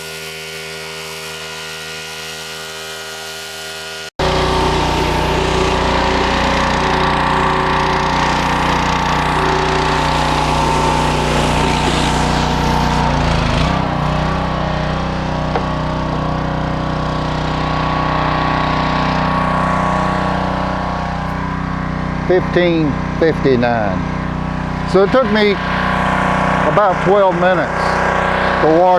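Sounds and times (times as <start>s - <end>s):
pressure washer engine running: 0.0s - 28.9s.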